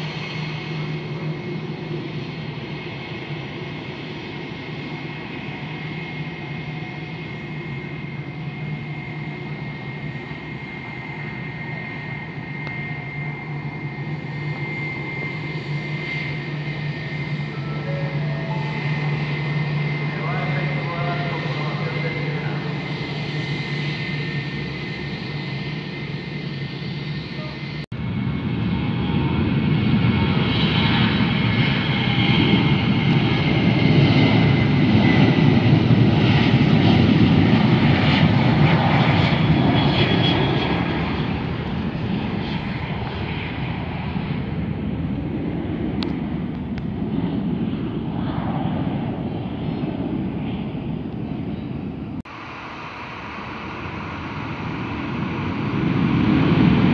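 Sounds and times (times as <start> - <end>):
jet aircraft rumble passing: 0.0 - 56.9
jet engine whine: 0.0 - 56.9.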